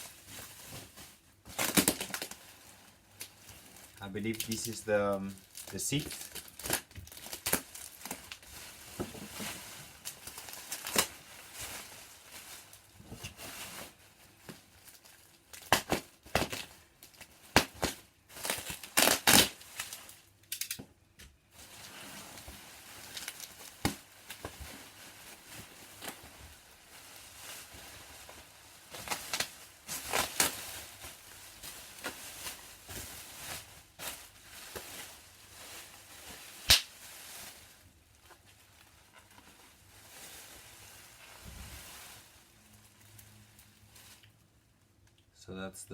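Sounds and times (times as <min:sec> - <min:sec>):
packaging crinkling and tearing: 0:00.0 - 0:20.9, 0:21.6 - 0:44.4.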